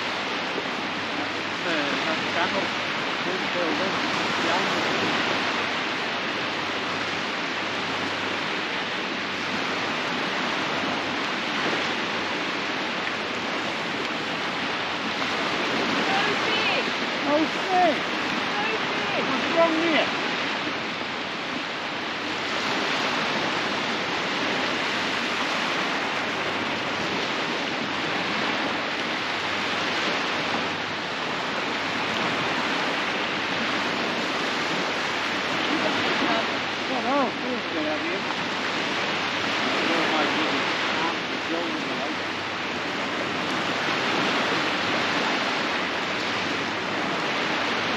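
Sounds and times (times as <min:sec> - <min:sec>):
surf washing onto beach: 0:00.0 - 0:47.9
waves breaking on shore: 0:00.0 - 0:47.9.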